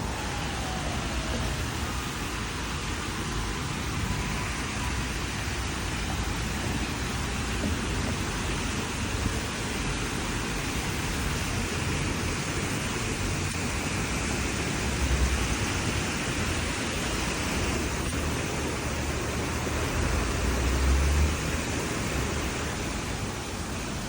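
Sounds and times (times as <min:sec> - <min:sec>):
distant street traffic noise: 0:00.0 - 0:24.0.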